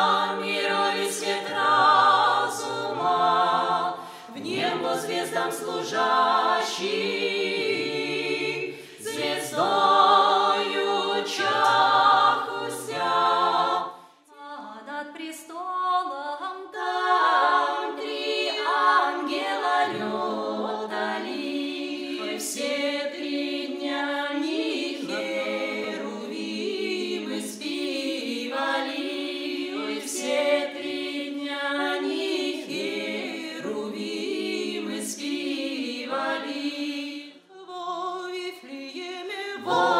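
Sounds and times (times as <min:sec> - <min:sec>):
choir singing a cappella: 0:00.0 - 0:39.9.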